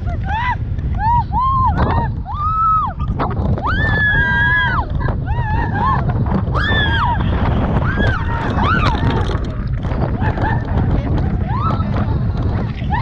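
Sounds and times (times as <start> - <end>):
wind rumble on microphone: 0.0 - 13.0
people shrieking and screaming: 0.2 - 13.0.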